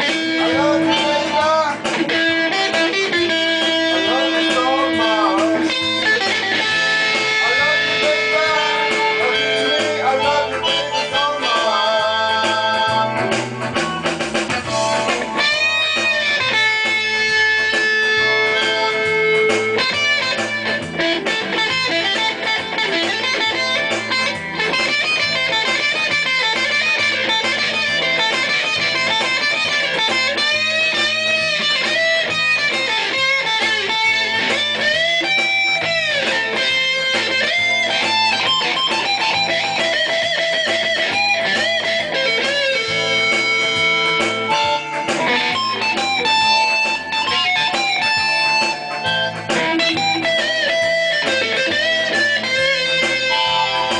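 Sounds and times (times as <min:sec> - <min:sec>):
lead guitar melody: 0:00.0 - 0:53.9.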